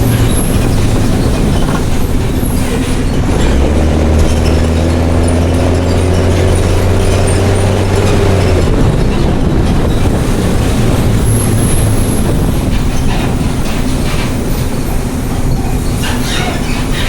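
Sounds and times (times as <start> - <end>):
bus body rattling: 0.0 - 17.0
diesel bus engine rumbling: 0.0 - 17.0.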